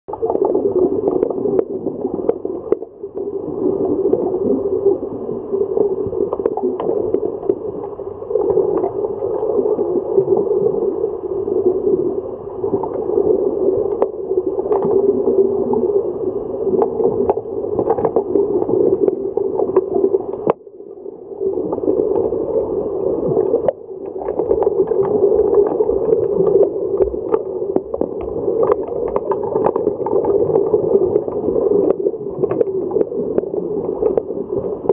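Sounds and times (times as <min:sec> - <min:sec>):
muffled underwater rush and bubbles: 0:00.1 - 0:34.9.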